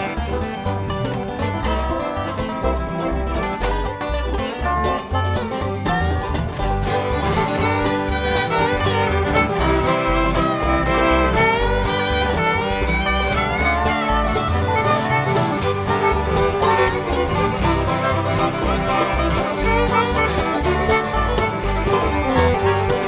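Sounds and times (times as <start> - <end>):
banjo: 0.0 - 23.0
bass notes: 0.0 - 23.0
fiddle lead: 0.0 - 23.0
guitar: 0.0 - 23.0.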